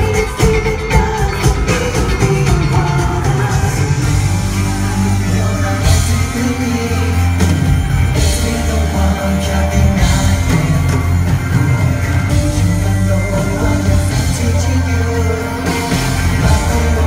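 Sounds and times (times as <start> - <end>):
live pop band playing: 0.0 - 17.0
man singing: 0.0 - 17.0.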